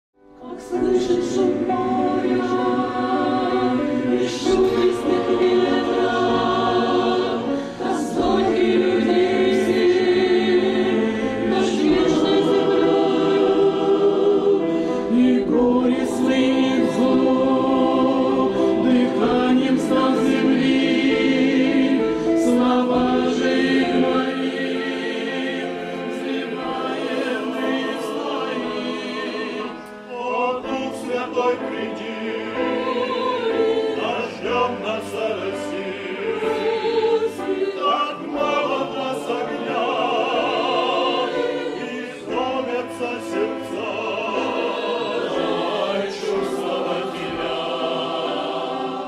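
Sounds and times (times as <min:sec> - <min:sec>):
choir singing a hymn: 0:00.2 - 0:49.0.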